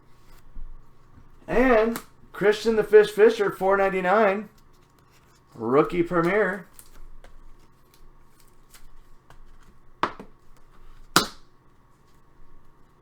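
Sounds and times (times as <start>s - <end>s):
cards rustling and ticking: 0.0s - 13.0s.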